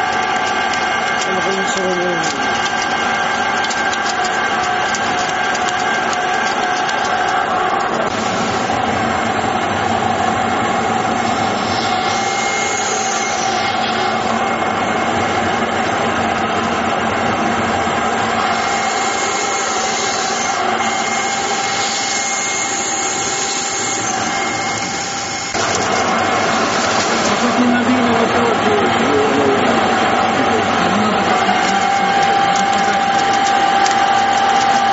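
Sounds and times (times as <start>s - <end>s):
machine running with whine: 0.0s - 34.9s.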